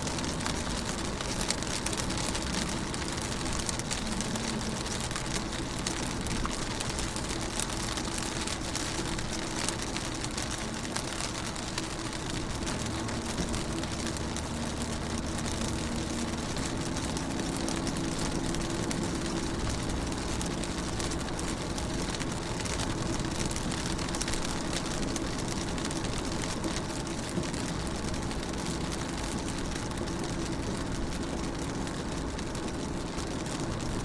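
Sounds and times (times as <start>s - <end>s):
rain on car window: 0.0s - 34.0s.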